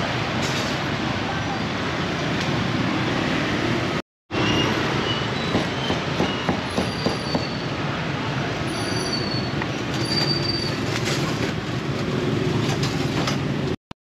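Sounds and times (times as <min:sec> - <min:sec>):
busy market din: 0:00.0 - 0:13.8.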